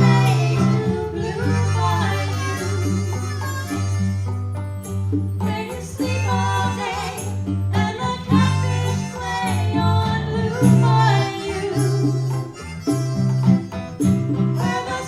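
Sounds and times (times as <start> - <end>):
guitar: 0.0 - 15.0
wavering lead melody: 0.0 - 15.0.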